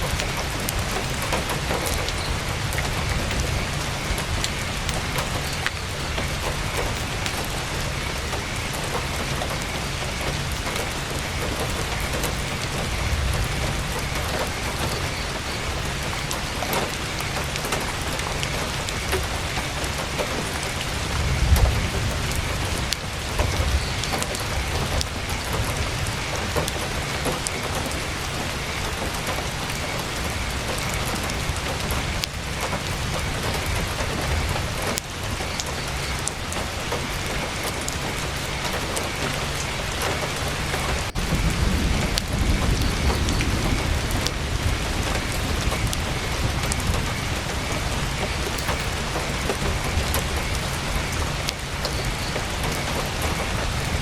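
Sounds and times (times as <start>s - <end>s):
heavy rain on tent fabric: 0.0s - 54.0s.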